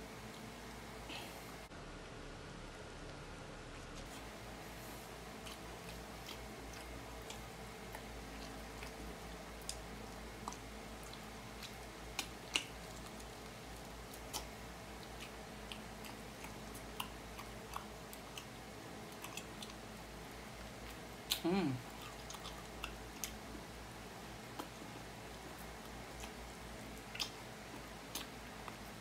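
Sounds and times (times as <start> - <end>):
faint steady hum: 0.0 - 29.0
person chewing fried chicken: 5.2 - 29.0.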